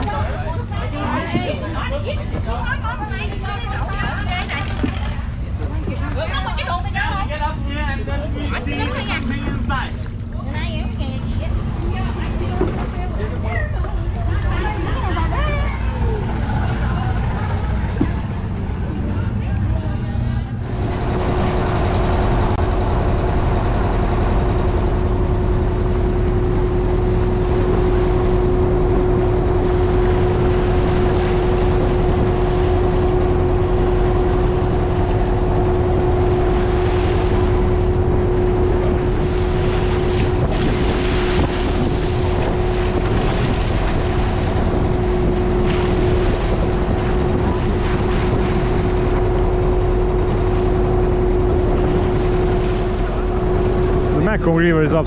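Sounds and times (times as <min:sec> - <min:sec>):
motorboat engine running: 0:00.0 - 0:55.0
wind buffeting microphone: 0:00.0 - 0:55.0.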